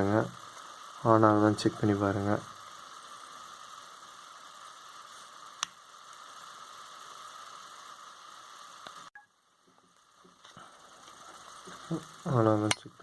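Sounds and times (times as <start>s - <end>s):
recording hiss: 0.0s - 13.0s.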